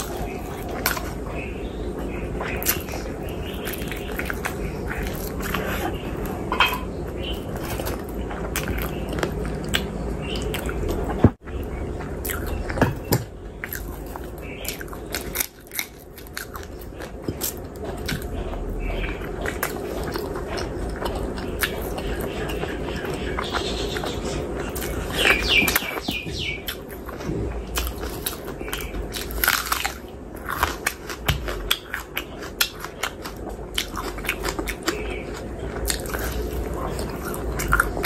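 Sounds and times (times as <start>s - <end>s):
close chewing and biting: 0.0s - 38.0s.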